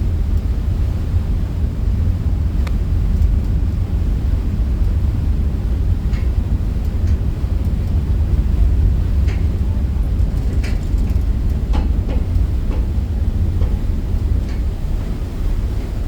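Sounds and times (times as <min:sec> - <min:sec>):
ferry engine rumble: 0:00.0 - 0:16.0.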